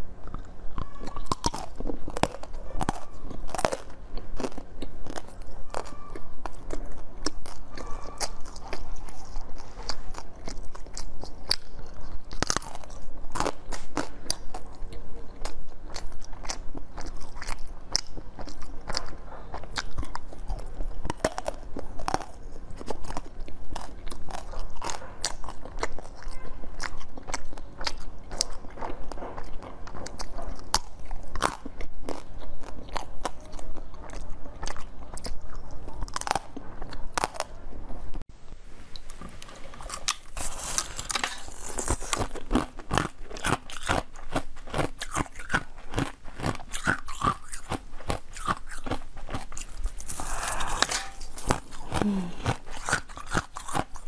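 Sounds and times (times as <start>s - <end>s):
crunching ice between teeth: 0.2s - 37.6s, 39.8s - 54.0s.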